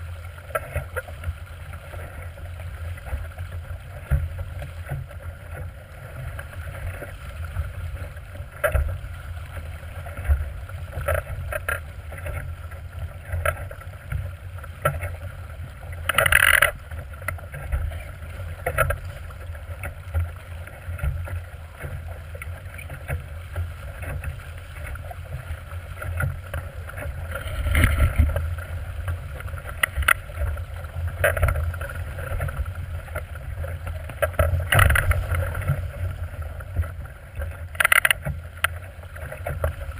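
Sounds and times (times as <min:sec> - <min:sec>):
water splashing along a boat hull: 0:00.0 - 0:39.9
wind rumble on microphone: 0:00.0 - 0:39.9.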